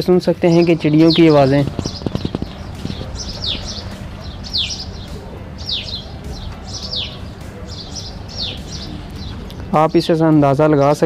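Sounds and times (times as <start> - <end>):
small birds chirping: 0.0 - 11.0
low steady hum: 0.3 - 10.0.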